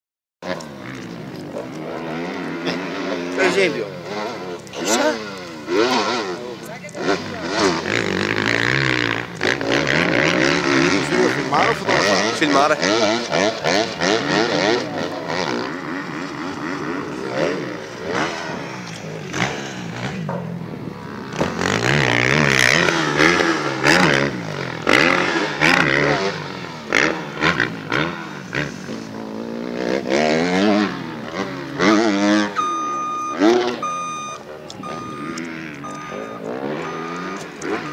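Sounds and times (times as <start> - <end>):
motocross bike engine revving: 0.4 - 37.9.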